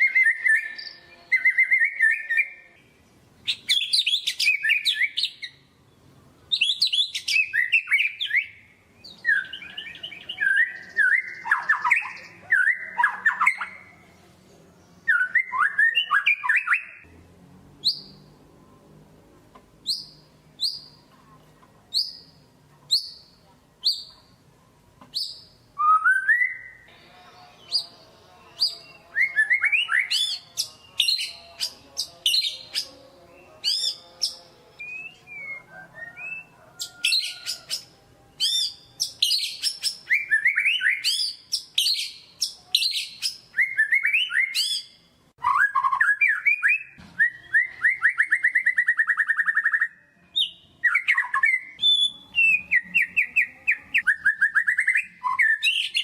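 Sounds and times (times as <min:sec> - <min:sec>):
songbird singing whistled phrases: 0:00.0 - 0:02.7, 0:03.4 - 0:05.6, 0:06.5 - 0:13.9, 0:15.0 - 0:17.0, 0:19.8 - 0:21.0, 0:21.9 - 0:24.2, 0:25.1 - 0:27.0, 0:27.6 - 0:56.0.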